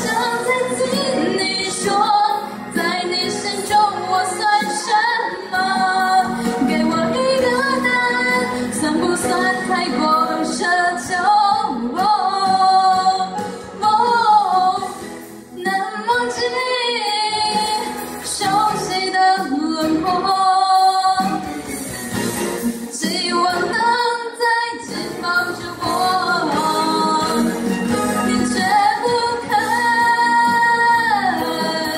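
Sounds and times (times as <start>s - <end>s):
woman singing pop ballad: 0.0s - 21.9s, 22.9s - 31.9s.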